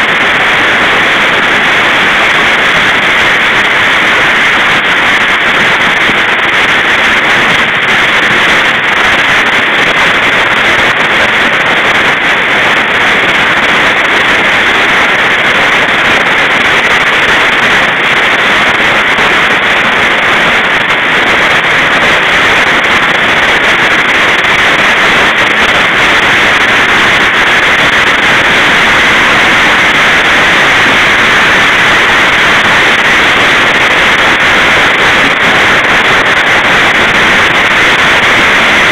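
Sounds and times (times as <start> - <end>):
hailstones pelting down: 0.2 - 38.9.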